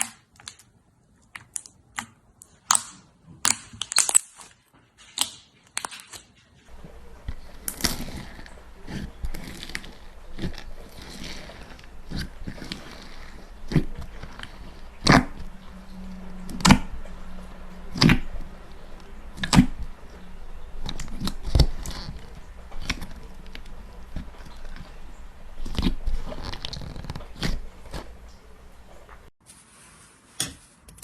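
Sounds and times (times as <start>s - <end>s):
slime squishing and crackling: 0.0s - 29.3s.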